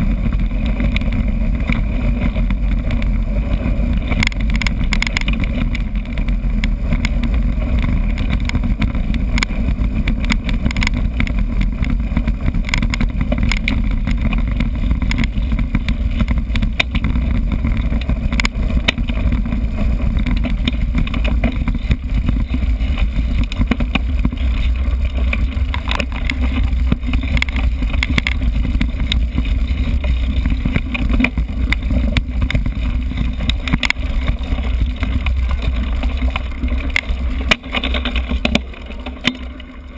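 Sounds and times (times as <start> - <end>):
bike rattling over bumps: 0.0 - 39.9
wind rumbling on microphone: 0.0 - 39.9.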